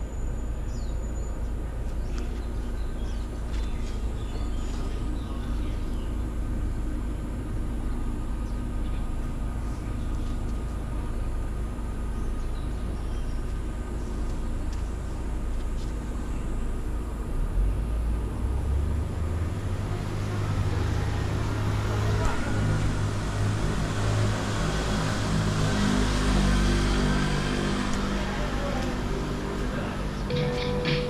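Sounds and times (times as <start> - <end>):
approaching vehicle hum: 0.0 - 31.0
low traffic rumble: 0.0 - 31.0.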